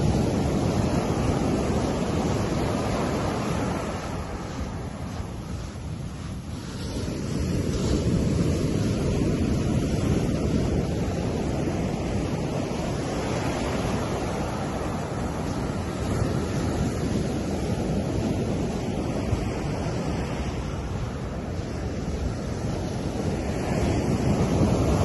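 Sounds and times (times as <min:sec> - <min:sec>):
ocean surf on sandy beach: 0:00.0 - 0:25.0.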